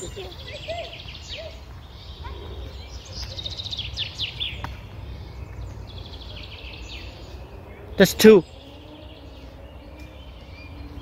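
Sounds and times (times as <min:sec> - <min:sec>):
songbirds chirping and singing: 0:00.0 - 0:11.0.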